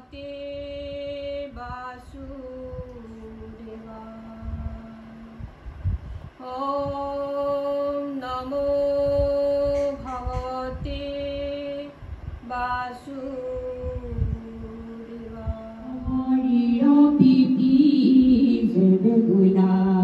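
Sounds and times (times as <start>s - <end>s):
woman singing long held notes: 0.0s - 5.5s, 6.4s - 20.0s.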